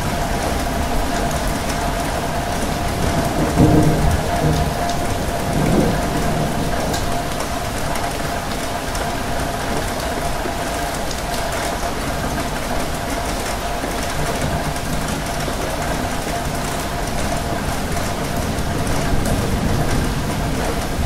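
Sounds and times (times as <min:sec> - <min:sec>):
rail carriage rumble: 0:00.0 - 0:21.0
rain pattering on a window: 0:00.0 - 0:21.0.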